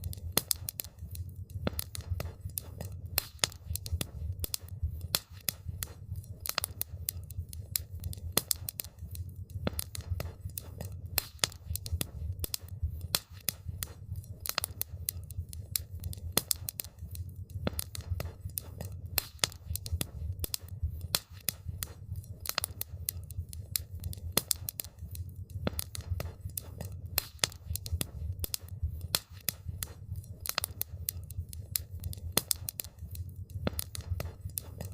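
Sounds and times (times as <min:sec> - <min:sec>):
campfire crackling and popping: 0:00.0 - 0:34.9
low fire rumble: 0:00.0 - 0:34.9.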